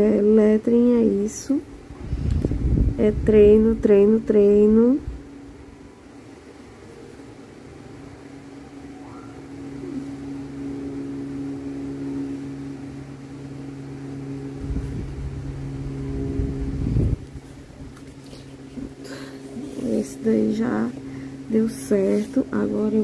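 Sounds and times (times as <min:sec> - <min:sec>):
steady motor hum: 0:00.0 - 0:23.0.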